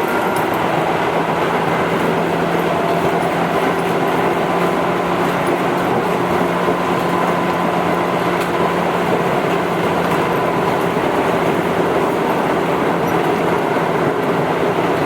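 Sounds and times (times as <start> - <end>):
train motor hum: 0.0 - 15.0
train wheels rumbling on rail: 0.0 - 15.0.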